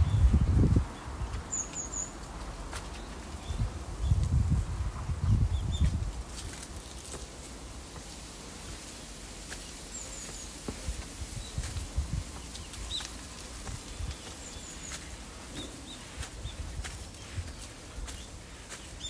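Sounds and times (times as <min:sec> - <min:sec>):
small birds chirping: 0:00.0 - 0:19.0
footsteps on stone steps: 0:01.2 - 0:03.6, 0:05.7 - 0:19.0.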